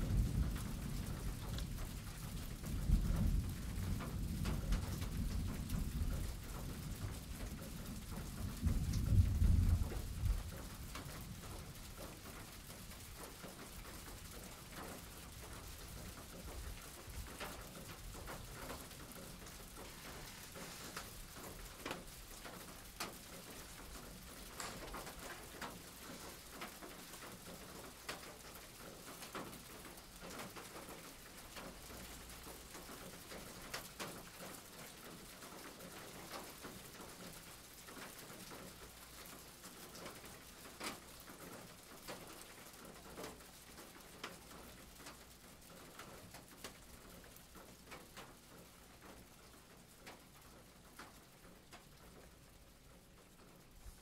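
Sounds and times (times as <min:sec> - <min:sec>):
steady rain: 0:00.0 - 0:54.0
water drips ticking: 0:09.8 - 0:53.7.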